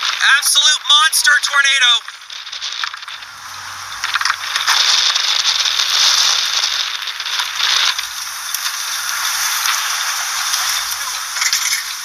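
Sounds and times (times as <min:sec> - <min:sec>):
heavy rain on vehicle roof: 0:00.0 - 0:12.0.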